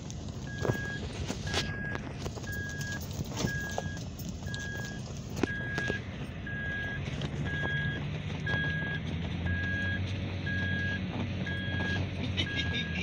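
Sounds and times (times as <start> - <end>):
engine pulling under load: 0.0 - 13.0
car warning chime beeping: 0.4 - 13.0.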